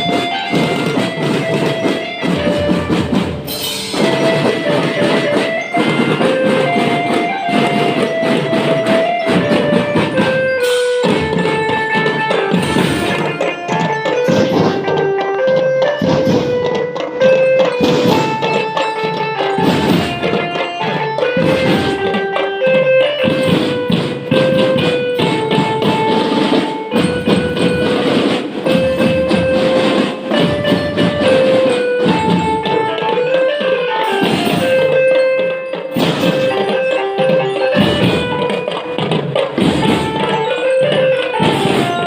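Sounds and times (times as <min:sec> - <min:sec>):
steady drum beats: 0:00.0 - 0:42.0
wind instruments melody: 0:00.0 - 0:42.0.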